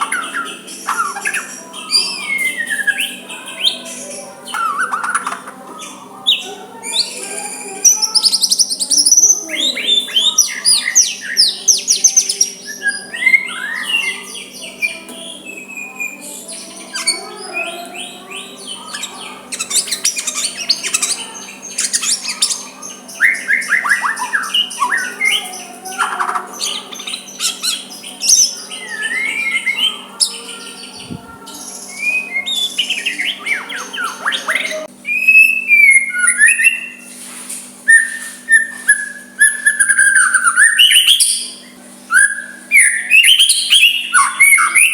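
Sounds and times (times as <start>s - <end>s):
songbird whistling and trilling: 0.0s - 37.1s, 37.9s - 44.9s.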